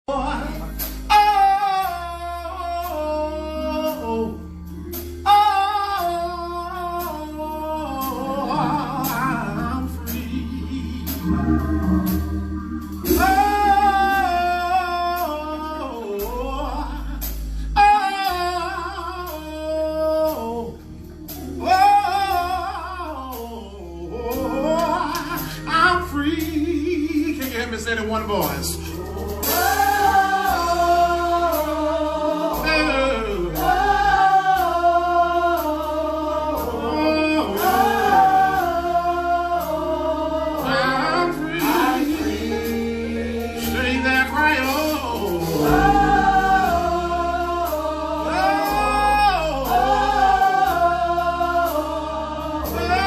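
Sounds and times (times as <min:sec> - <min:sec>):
deep bass: 0:00.0 - 0:53.0
organ: 0:00.0 - 0:53.0.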